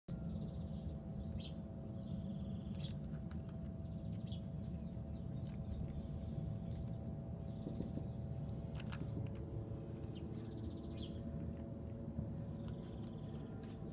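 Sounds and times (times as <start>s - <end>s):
birds chirping: 0.1s - 13.9s
faint hum: 0.1s - 13.9s
low rumble: 0.1s - 13.9s.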